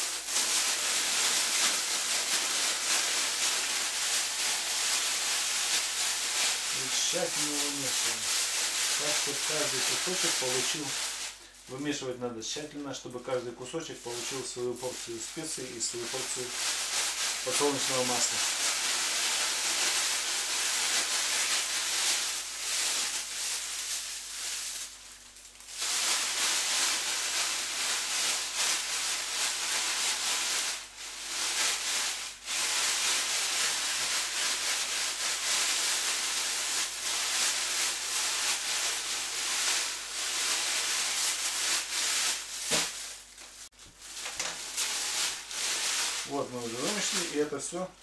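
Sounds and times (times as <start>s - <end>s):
plastic bag crinkling: 0.0s - 12.0s, 12.6s - 48.0s.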